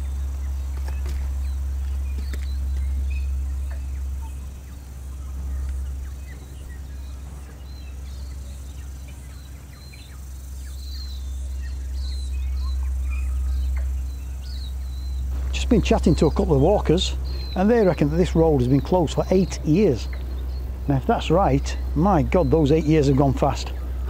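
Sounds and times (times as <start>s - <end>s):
bird chirps: 0.0s - 24.0s
wind buffeting microphone: 0.0s - 24.0s.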